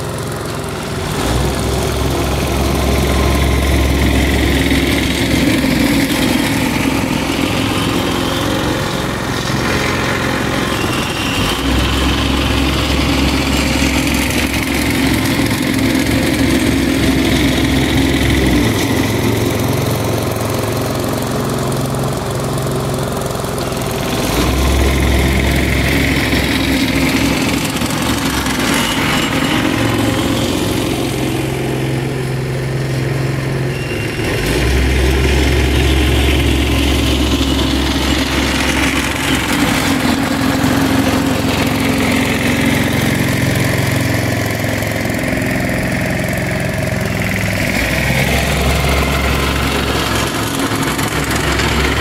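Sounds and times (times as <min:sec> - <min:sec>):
roller engine running: 0:00.0 - 0:52.0.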